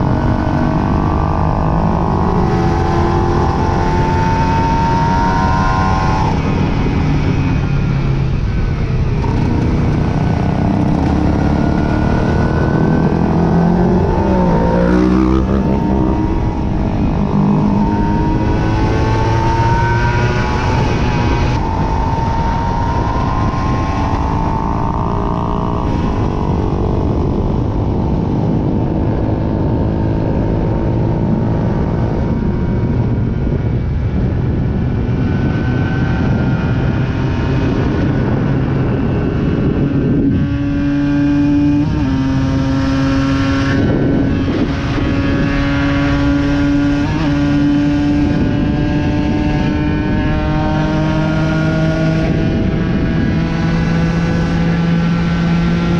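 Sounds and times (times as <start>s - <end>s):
wind rushing: 0.0s - 55.9s.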